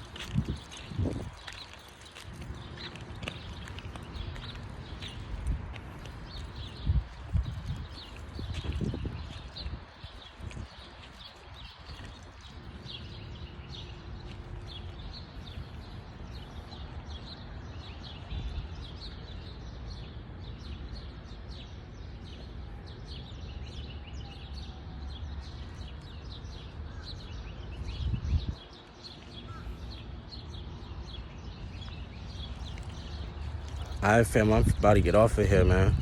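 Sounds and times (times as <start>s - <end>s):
small birds chirping: 0.0s - 36.0s
wind rumble on microphone: 0.0s - 36.0s.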